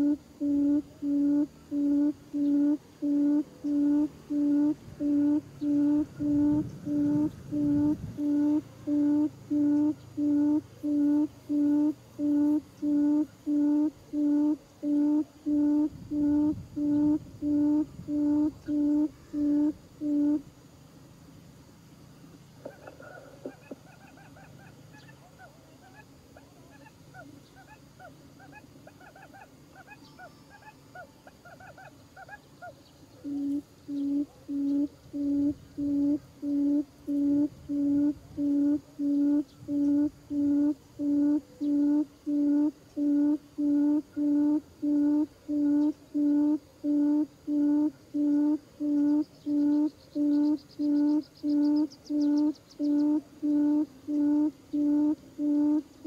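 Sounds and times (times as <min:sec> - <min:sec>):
low hooting lure call: 0:00.0 - 0:20.5, 0:22.6 - 0:56.0
faint bird chirps: 0:00.0 - 0:56.0.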